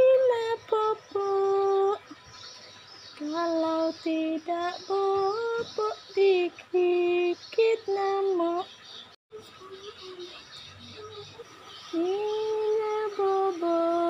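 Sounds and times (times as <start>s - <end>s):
woman singing a lullaby: 0.0s - 2.2s, 3.2s - 8.7s, 9.3s - 14.0s.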